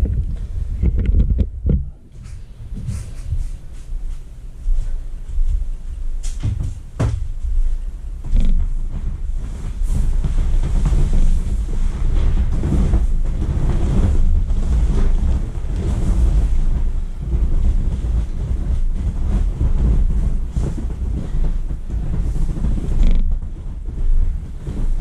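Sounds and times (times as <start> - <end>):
inflatable vinyl creaking: 0.0 - 2.0, 6.2 - 25.0
wind rumble on microphone: 0.0 - 25.0.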